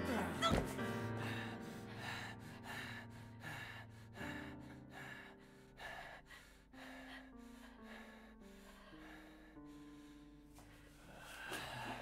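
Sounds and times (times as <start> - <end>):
soft music of held notes: 0.0 - 12.0
person gasping breaths: 0.5 - 12.0.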